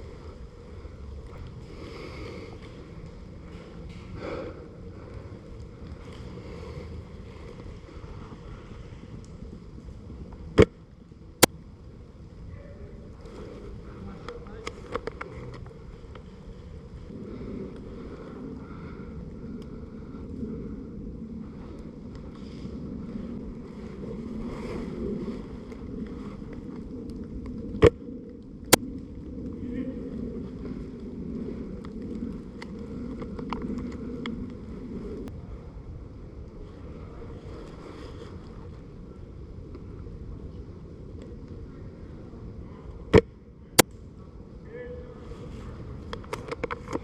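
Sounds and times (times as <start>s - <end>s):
wind on microphone: 0.0s - 47.0s.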